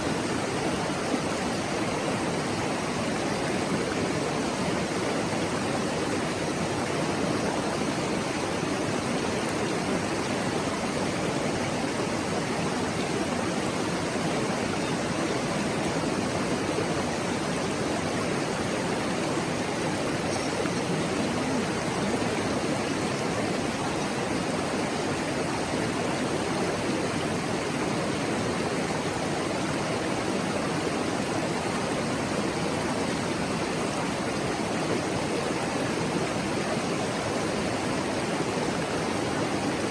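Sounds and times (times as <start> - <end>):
mountain stream babbling: 0.0 - 39.9.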